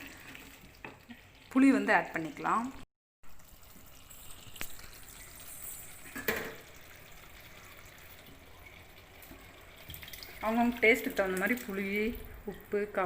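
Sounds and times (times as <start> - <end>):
curry simmering and bubbling: 0.0 - 13.0.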